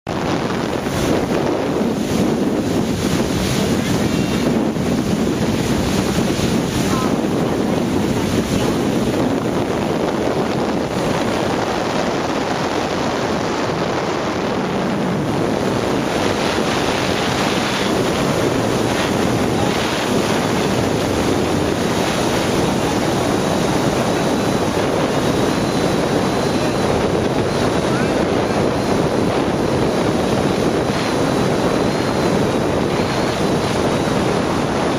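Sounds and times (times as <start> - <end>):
water rushing past motorboat: 0.0 - 34.9
wind buffeting microphone: 0.0 - 34.9.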